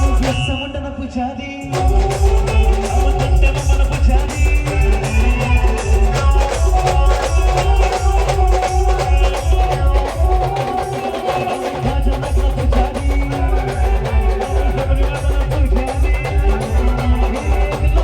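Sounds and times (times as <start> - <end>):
heavy bass drum: 0.0 - 0.6, 1.7 - 18.0
live band playing: 0.0 - 0.8, 1.6 - 18.0.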